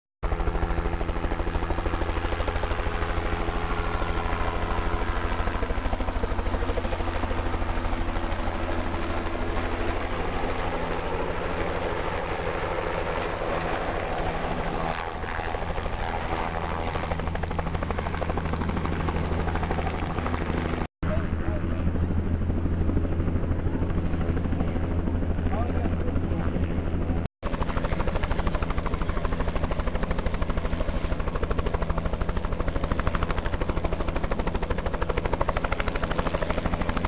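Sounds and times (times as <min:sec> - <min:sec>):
helicopter rotor chopping: 0:00.2 - 0:37.0.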